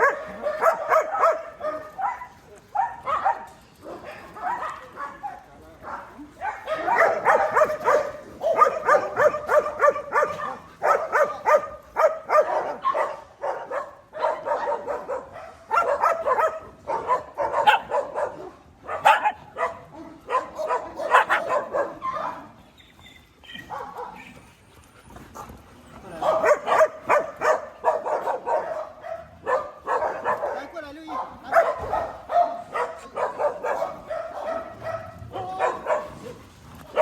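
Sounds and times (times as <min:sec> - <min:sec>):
dogs barking: 0:00.0 - 0:22.7, 0:23.4 - 0:24.5, 0:25.2 - 0:37.0.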